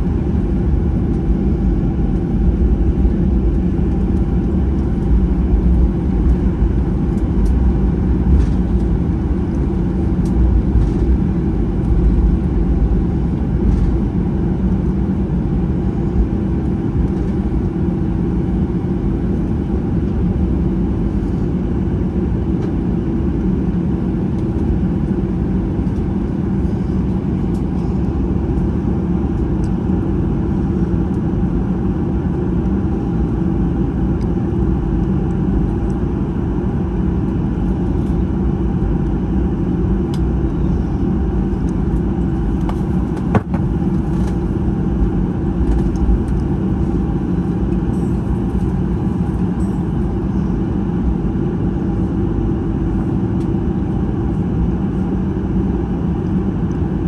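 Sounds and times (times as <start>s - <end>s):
jet engines idling: 0.0s - 54.3s
steady hums: 0.0s - 57.0s.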